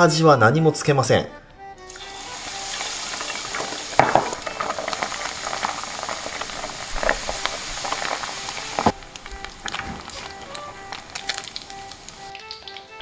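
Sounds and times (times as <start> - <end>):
batter deep-frying with crackling pops: 1.9 - 13.0.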